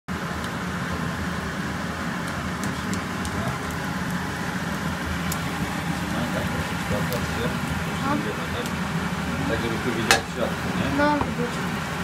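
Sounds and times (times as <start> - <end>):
meat and onion sizzling: 0.1 - 12.0
steady low hum: 0.1 - 12.0.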